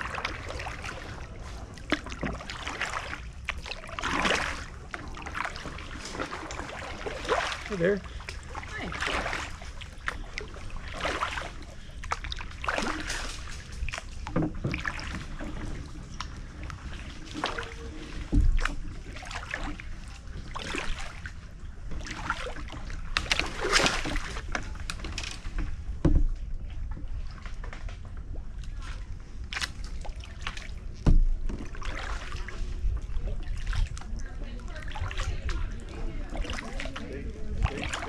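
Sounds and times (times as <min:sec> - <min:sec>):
kayak paddle strokes in water: 0:00.0 - 0:38.0.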